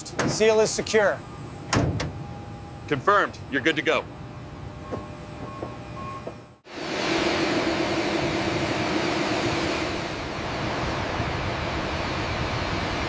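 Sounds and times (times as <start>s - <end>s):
jet engines roaring: 0.0s - 13.0s
steady low hum: 0.0s - 13.0s.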